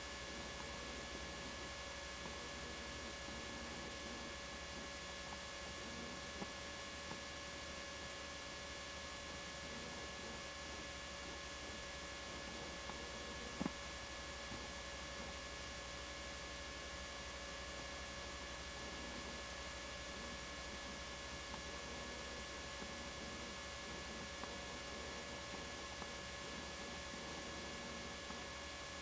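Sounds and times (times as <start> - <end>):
electrical hum and hiss: 0.0 - 29.0.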